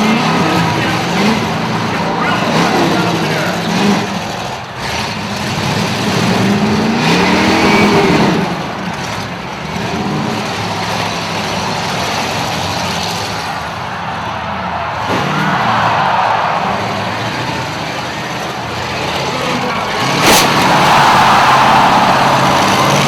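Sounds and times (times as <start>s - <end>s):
engines revving: 0.0s - 23.0s.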